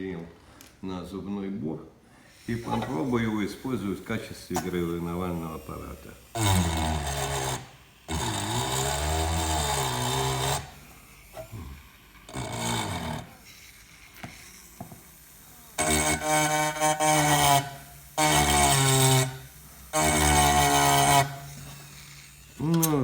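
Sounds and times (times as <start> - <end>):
mini-drill engraving: 2.3 - 23.0.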